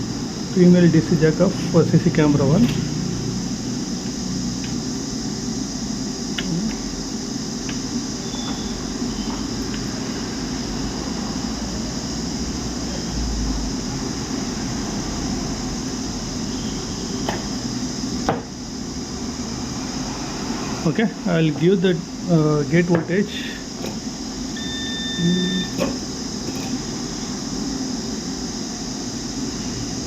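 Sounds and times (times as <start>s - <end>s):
air conditioner hum: 0.0s - 30.0s.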